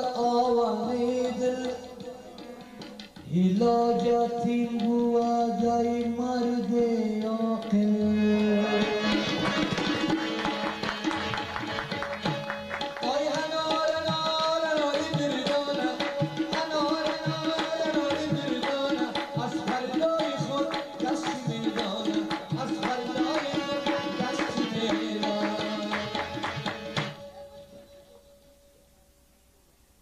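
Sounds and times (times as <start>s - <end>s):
harmonium melody: 0.0s - 28.6s
tabla strokes: 0.0s - 28.6s.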